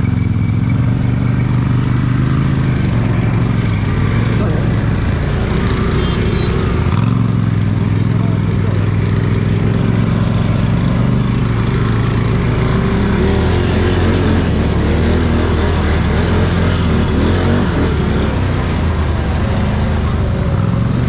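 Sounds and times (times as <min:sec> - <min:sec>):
atv engine running under load: 0:00.0 - 0:21.0
rushing churned water: 0:01.8 - 0:21.0.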